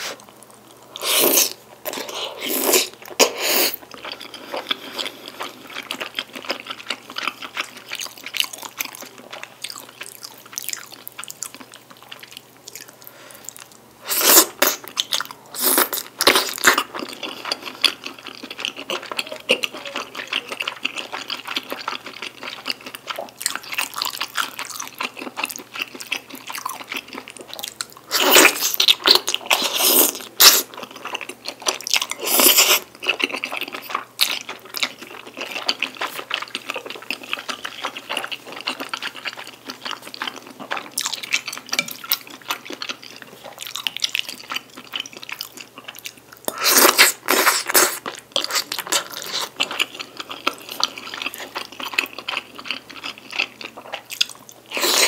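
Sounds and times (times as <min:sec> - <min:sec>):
wet chewing and eating: 0:00.0 - 0:55.0.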